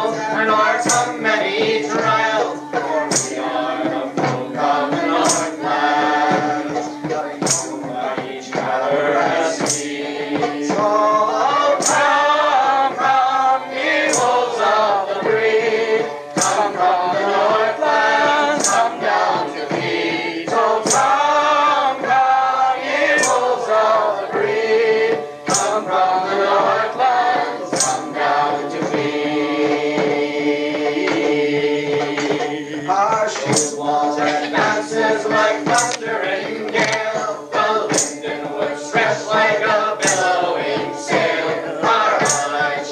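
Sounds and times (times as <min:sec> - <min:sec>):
choir singing folk song: 0:00.0 - 0:42.9.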